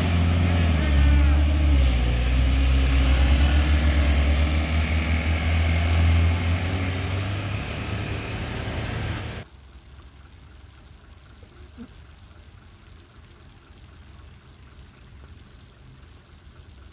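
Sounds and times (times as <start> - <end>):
diesel truck engine droning: 0.0 - 16.9.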